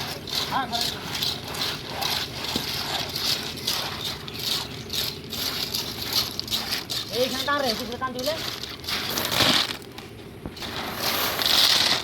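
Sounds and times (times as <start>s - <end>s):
low machine hum: 0.0s - 12.0s
wet concrete and stones rattling: 0.0s - 12.0s.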